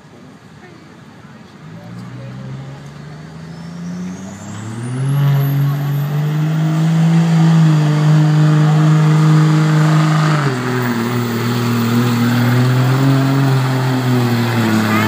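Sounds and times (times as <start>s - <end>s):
truck engine running hard: 0.0s - 15.0s.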